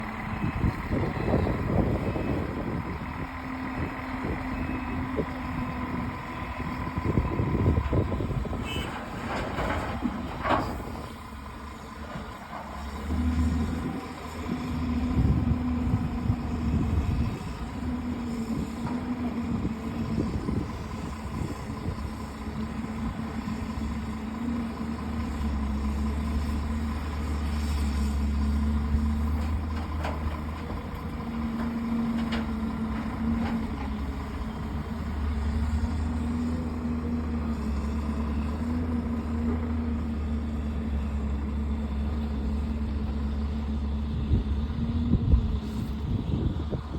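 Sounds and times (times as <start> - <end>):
heavy machine engine droning: 0.0 - 46.9.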